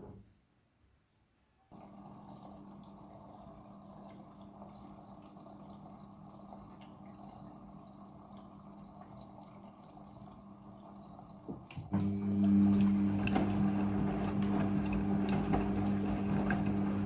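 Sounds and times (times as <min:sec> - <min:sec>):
washing machine humming: 0:01.7 - 0:17.0.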